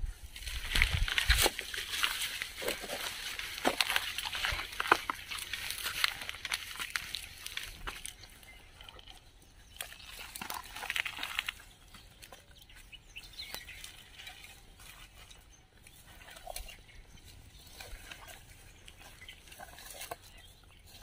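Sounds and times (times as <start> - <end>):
dry brush rustling and crackling: 0.0 - 21.0.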